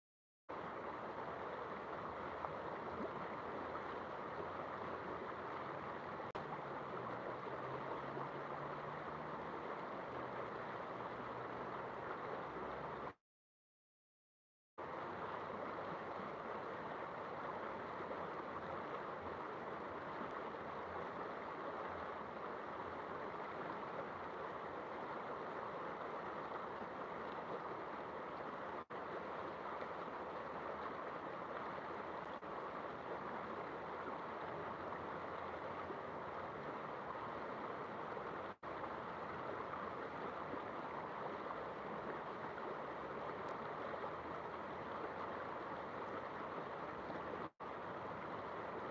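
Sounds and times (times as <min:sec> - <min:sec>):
river rushing: 0:00.5 - 0:13.2, 0:14.8 - 0:48.9.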